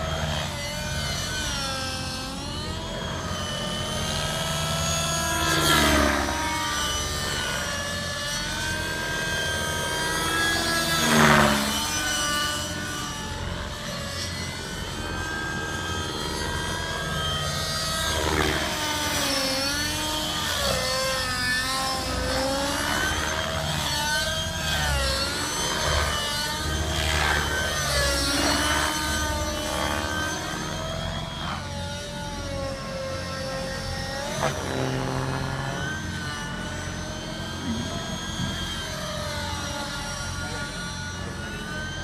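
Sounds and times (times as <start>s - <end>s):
model helicopter engine and rotor: 0.0s - 42.0s.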